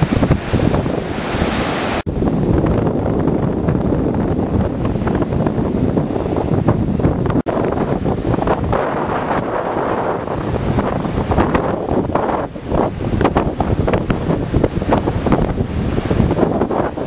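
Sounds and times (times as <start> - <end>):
sea surf breaking on beach: 0.0 - 17.0
wind buffeting microphone: 0.0 - 17.0.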